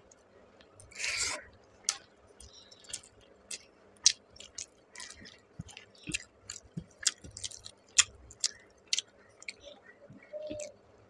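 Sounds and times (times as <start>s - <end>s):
mouth chewing clicks and smacks: 1.8s - 10.8s.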